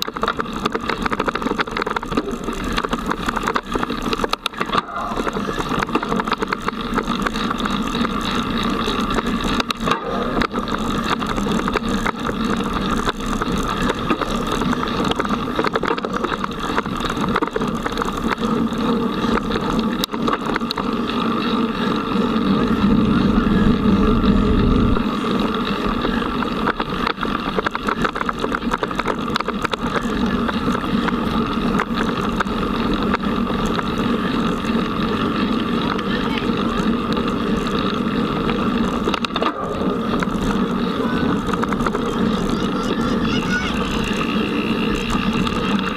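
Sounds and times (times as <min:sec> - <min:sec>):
bike tyres rumbling on dirt trail: 0:00.0 - 0:45.9.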